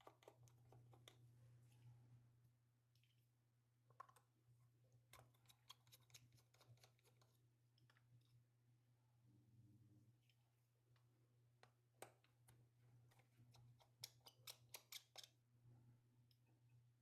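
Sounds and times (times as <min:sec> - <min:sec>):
low steady hum: 0:00.0 - 0:14.0, 0:15.3 - 0:17.0.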